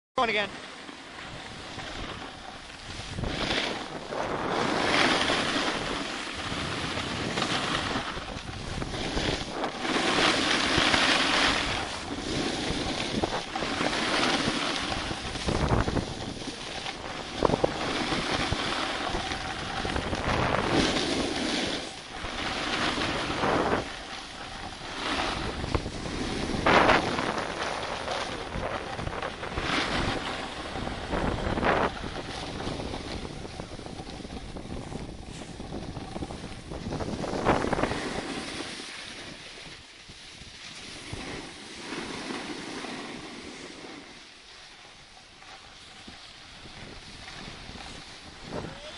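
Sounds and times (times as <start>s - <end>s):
edges scraping on packed snow: 0.4s - 48.9s
wind on microphone: 1.2s - 44.3s, 45.1s - 48.9s.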